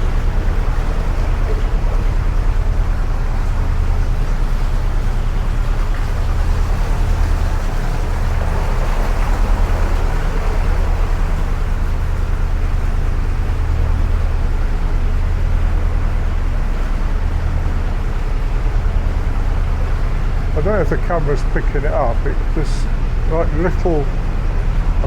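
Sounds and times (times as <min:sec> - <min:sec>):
diesel boat engine running: 0:00.0 - 0:25.0.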